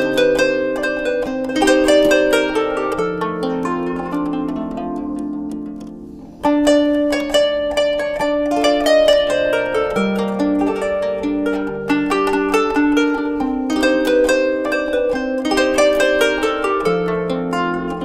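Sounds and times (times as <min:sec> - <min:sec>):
plucked zither playing: 0:00.0 - 0:18.0.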